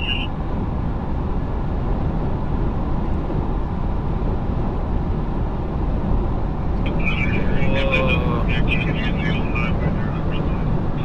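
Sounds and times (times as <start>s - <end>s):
car cabin road noise: 0.0s - 11.0s.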